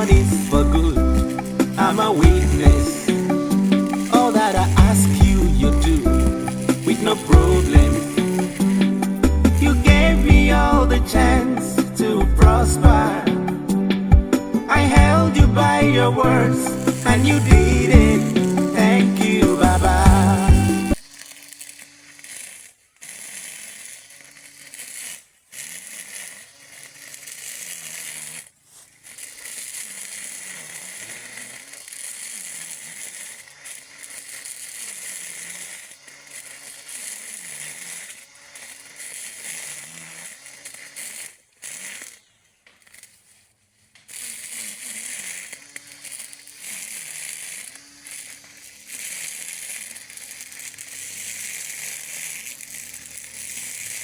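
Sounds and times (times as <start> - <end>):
electric lawn mower motor hum: 0.0 - 54.0
grass being cut: 0.0 - 54.0.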